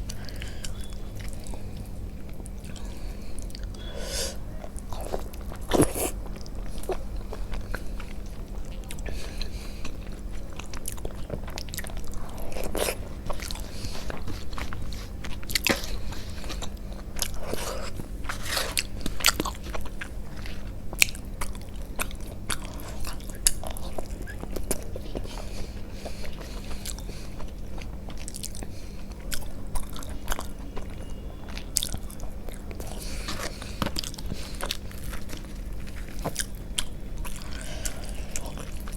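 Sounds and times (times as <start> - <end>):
chewing and biting: 4.6 - 38.9.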